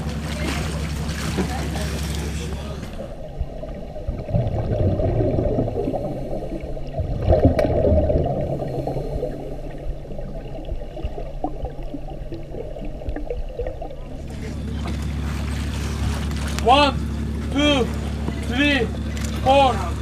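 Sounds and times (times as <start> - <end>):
low hum: 0.0 - 20.0
water sloshing and gurgling: 0.0 - 20.0.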